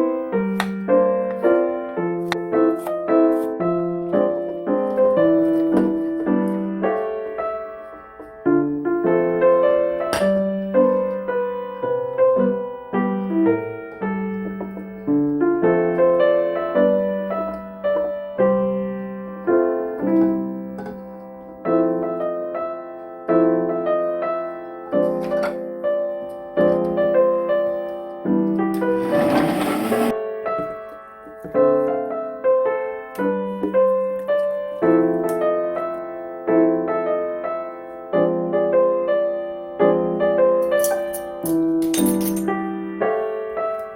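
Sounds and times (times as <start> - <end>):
gentle piano music: 0.0 - 43.9.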